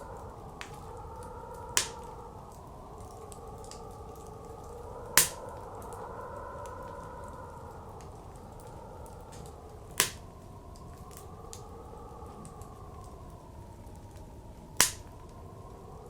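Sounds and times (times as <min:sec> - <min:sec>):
blizzard wind howling: 0:00.0 - 0:16.0
wood fire crackling: 0:00.0 - 0:16.0.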